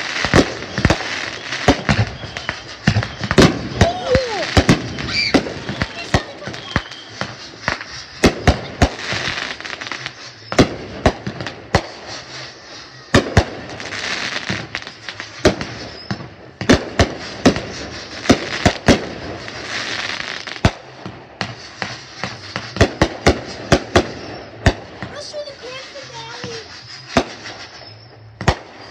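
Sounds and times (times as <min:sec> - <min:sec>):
fireworks bangs: 0:00.0 - 0:28.9
fireworks hissing crackle: 0:00.0 - 0:28.9.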